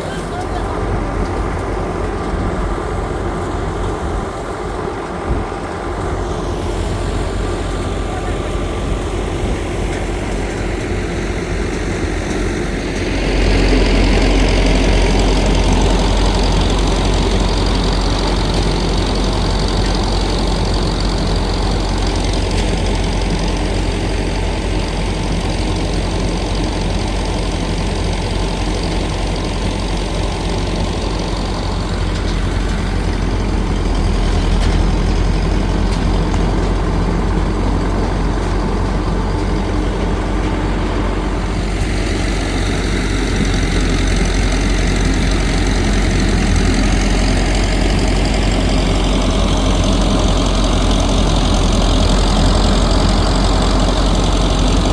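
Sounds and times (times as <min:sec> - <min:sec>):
engine humming under load: 0:00.0 - 0:54.9.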